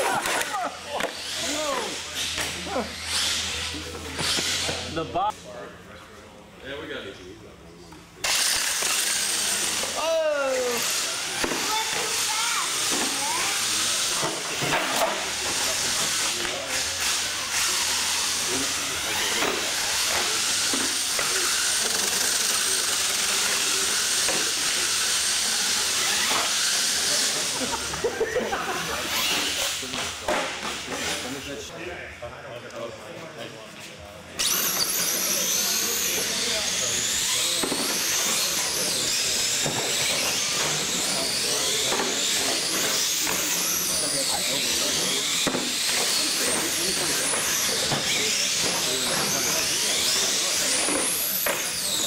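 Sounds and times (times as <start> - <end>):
electric motors whining: 0.0 - 5.3, 8.1 - 31.7, 34.3 - 52.0
toy truck drivetrain hissing: 1.1 - 4.9, 8.2 - 29.9, 34.4 - 52.0.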